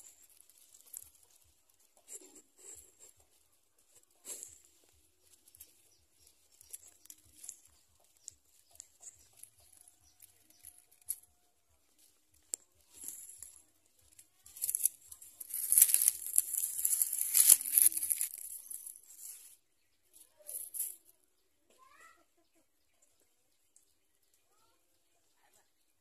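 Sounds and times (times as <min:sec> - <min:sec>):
dry nest material rustling: 0:00.0 - 0:21.0.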